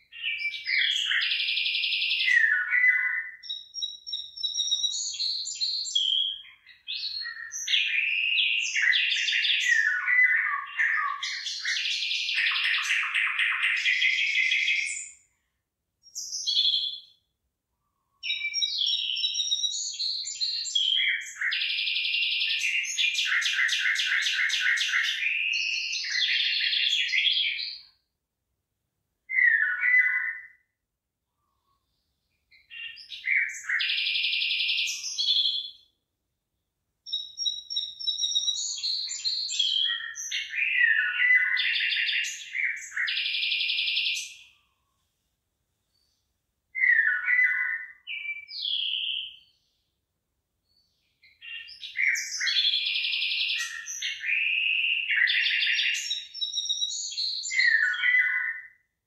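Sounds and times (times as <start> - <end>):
songbird singing with trills: 0.0 - 17.3, 18.0 - 28.0, 29.3 - 30.8, 31.4 - 36.0, 37.0 - 44.8, 45.9 - 49.9, 50.6 - 59.0.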